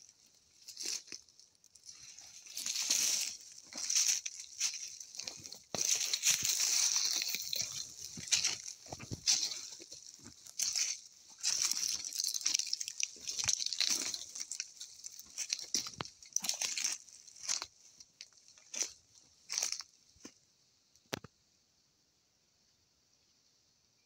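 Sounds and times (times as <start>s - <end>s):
footsteps through dry leaves: 0.2s - 20.0s.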